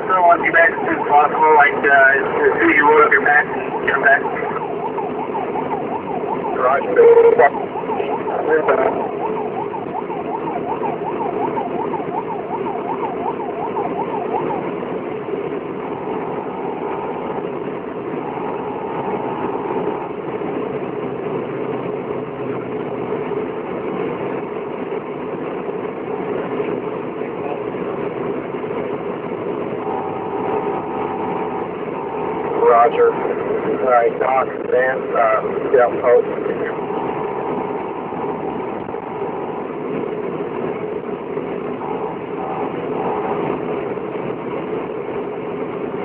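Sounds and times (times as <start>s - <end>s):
fast warbling siren: 0.0s - 23.6s, 28.8s - 46.0s
steady siren tone: 0.0s - 46.0s
vehicle engine and road noise: 0.0s - 46.0s.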